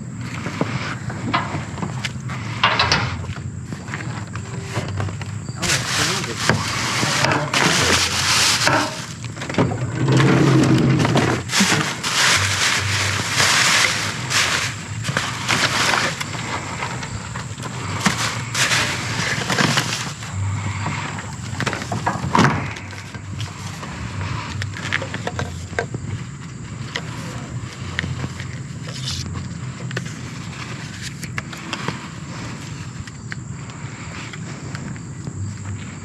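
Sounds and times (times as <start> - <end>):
items rustling and clattering: 0.0 - 36.0
steady low hum: 0.0 - 36.0.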